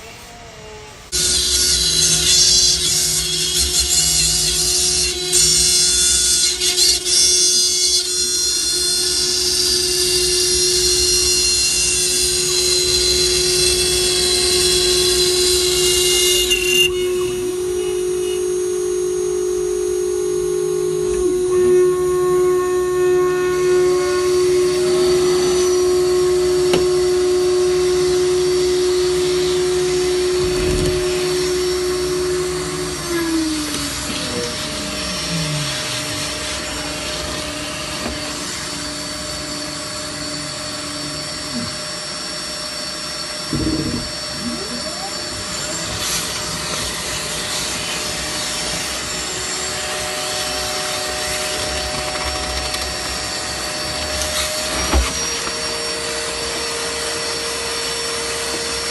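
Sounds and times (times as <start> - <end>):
wood router whining hum: 0.0 - 58.9
motor tone sliding down: 8.8 - 58.9.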